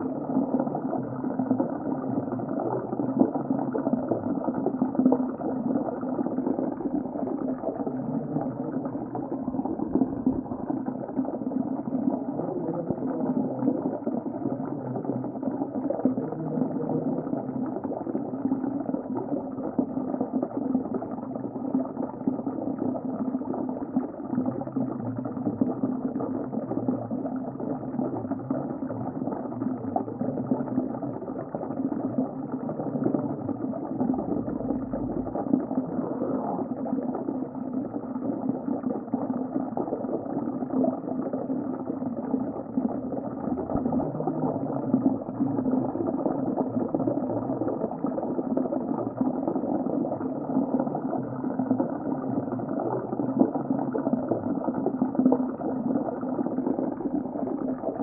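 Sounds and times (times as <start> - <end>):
underwater bubbling rumble: 0.0 - 58.0.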